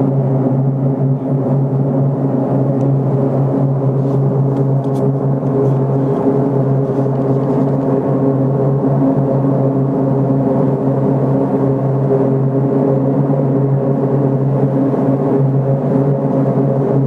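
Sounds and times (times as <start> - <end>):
low droning hum: 0.0 - 17.0.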